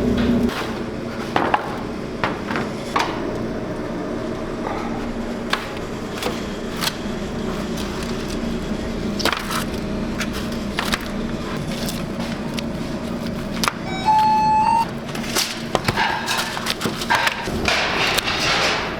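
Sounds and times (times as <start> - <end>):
steady mechanical hum: 0.0 - 18.9.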